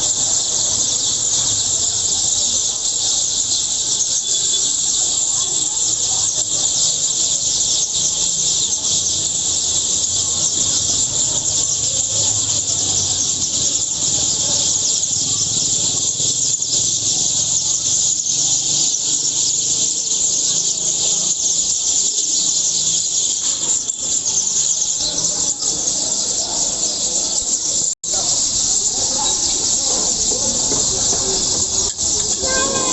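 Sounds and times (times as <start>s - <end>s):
flock of small birds chirping: 0.0s - 32.9s.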